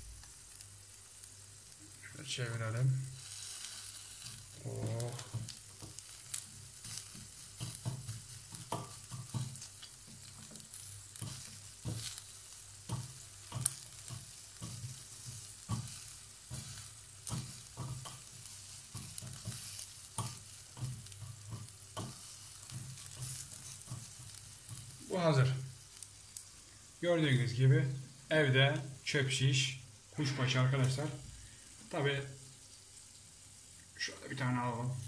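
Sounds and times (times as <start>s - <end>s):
meat sizzling on grill: 0.0s - 35.0s.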